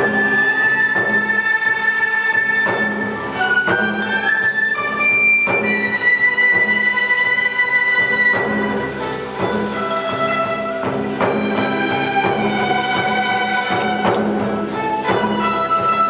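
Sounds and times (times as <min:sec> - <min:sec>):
folk ensemble melody of held notes: 0:00.0 - 0:16.0
plucked zither chords: 0:00.0 - 0:16.0.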